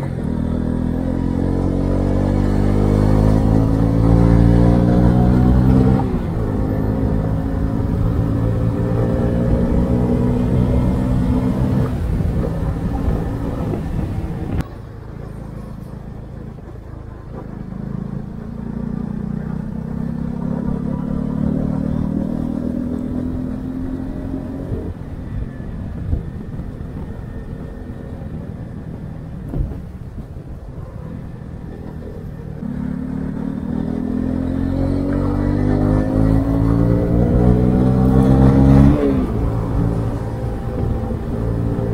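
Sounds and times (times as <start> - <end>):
motorcycle engine: 0.0 - 41.9.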